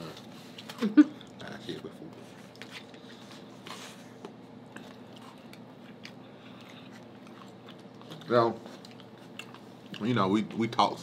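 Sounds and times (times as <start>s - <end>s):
chewing and wet mouth noises: 0.0s - 10.8s.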